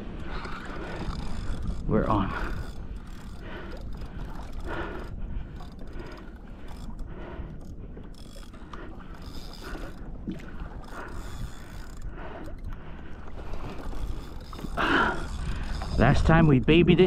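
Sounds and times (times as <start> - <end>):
fishing reel clicking rapidly: 0.3 - 10.0, 10.8 - 12.7, 13.7 - 16.6.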